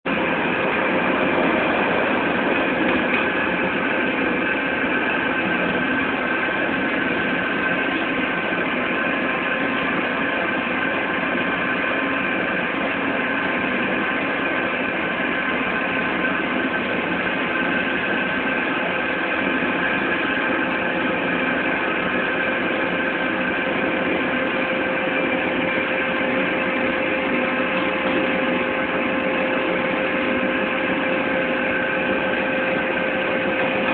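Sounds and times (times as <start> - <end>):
machinery humming and whining: 0.1 - 33.9.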